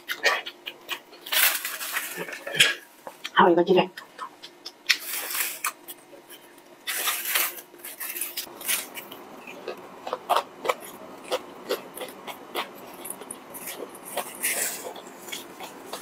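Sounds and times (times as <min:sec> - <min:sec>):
close-up chewing: 0:00.0 - 0:16.0.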